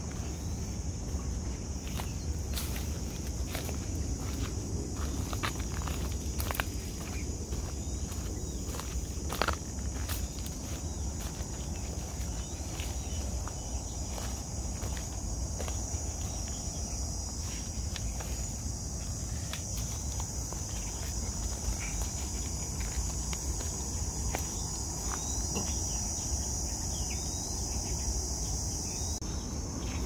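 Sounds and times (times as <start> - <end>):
insects chorus: 0.0 - 30.0
footsteps on dry leaves: 0.1 - 25.9.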